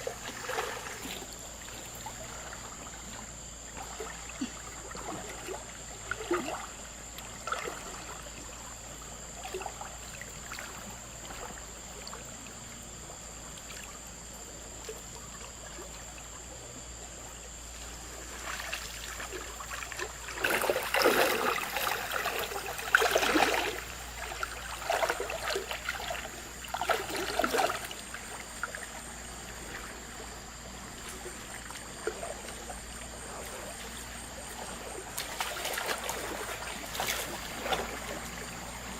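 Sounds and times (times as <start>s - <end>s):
water splashing: 0.0s - 16.3s, 17.2s - 38.9s
river water running: 0.0s - 38.9s.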